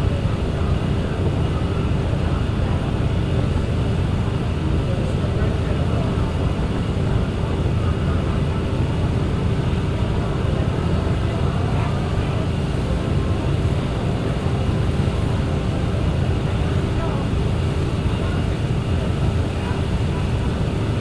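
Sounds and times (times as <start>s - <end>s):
constant hum: 0.0s - 21.0s
ferry engine drone: 0.0s - 21.0s
water rushing past boat: 0.0s - 21.0s.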